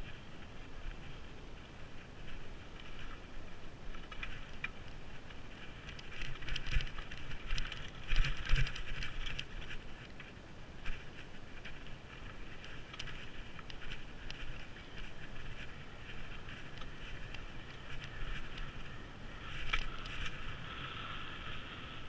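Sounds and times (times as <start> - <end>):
bike knocking and rattling: 0.0 - 22.0
bike tyres crunching on gravel: 0.0 - 22.0.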